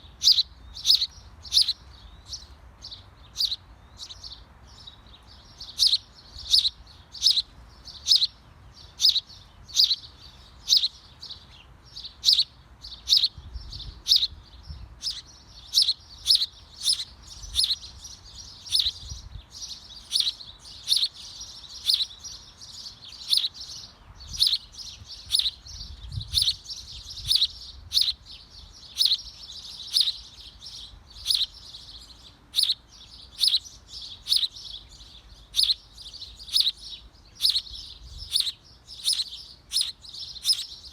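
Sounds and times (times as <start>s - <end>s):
small bird chirping: 0.0s - 40.9s
soft high bird chatter: 0.0s - 40.9s.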